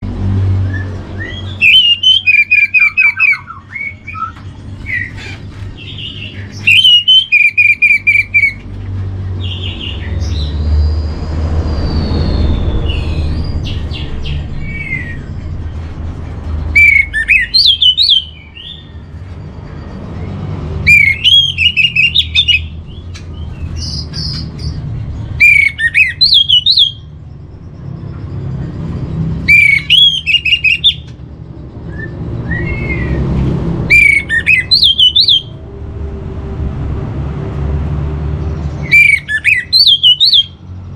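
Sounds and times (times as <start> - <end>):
thrush singing whistled notes: 0.5 - 5.2, 5.8 - 8.7, 9.4 - 15.7, 16.7 - 35.6, 38.7 - 40.6.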